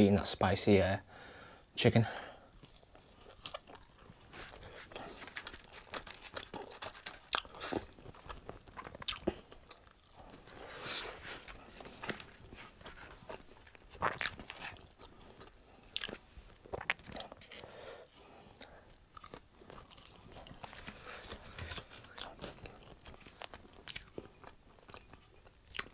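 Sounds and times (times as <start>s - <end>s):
person chewing food: 2.6s - 25.9s.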